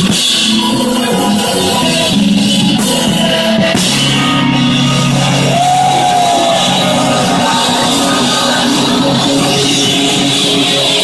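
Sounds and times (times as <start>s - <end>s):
jazz fusion band playing: 0.0s - 11.0s
sliding melody line: 0.4s - 11.0s.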